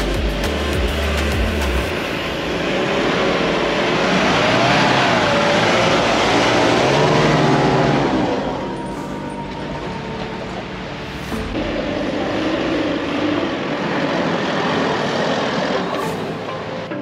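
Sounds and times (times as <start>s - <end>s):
vehicle engine working under load: 0.0s - 16.8s
tyres churning sand: 0.0s - 17.0s.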